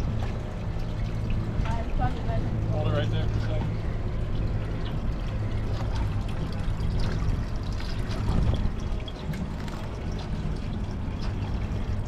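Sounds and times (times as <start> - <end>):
boat motor idling: 0.0 - 12.0
water trickling and splashing: 0.0 - 12.0.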